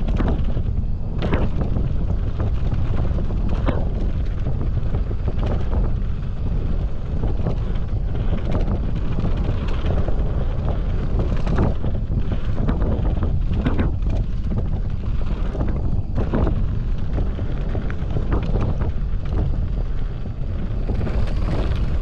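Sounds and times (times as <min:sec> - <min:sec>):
bike clacking over bumps: 0:00.0 - 0:22.0
wind buffeting microphone: 0:00.0 - 0:22.0.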